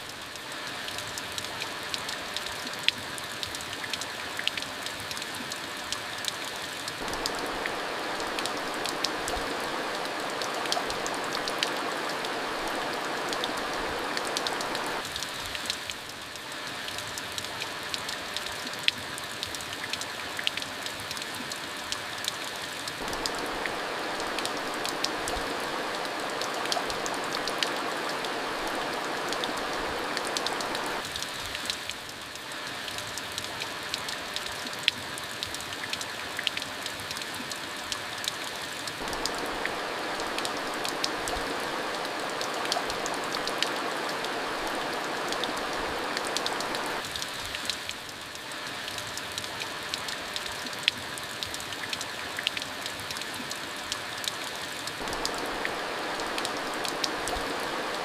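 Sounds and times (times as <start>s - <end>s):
raindrops ticking: 0.0s - 58.0s
steady rain falling: 0.0s - 58.0s.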